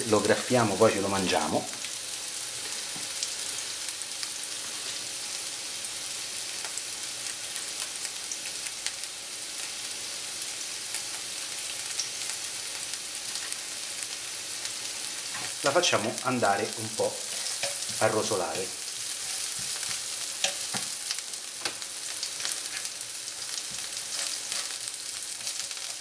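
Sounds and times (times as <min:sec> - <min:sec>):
onion sizzling in oil: 0:00.0 - 0:26.0.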